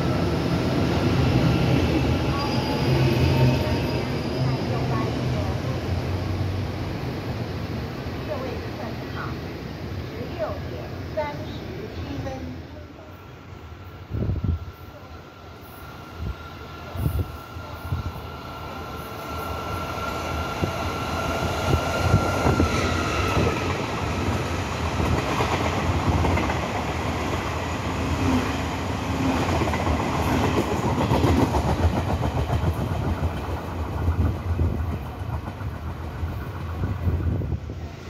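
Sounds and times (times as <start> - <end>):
train rumbling past: 0.0 - 38.0.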